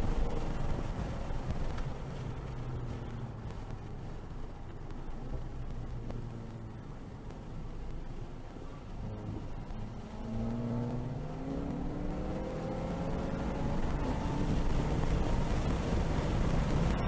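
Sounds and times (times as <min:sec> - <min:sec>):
road noise: 0:00.0 - 0:17.0
turbocharged engine accelerating: 0:00.0 - 0:17.0.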